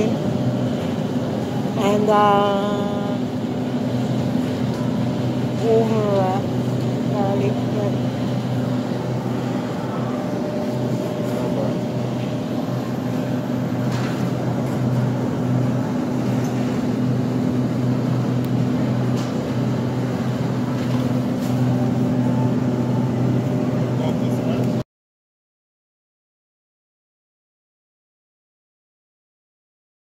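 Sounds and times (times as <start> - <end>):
refrigerator low mechanical hum: 0.0 - 24.8.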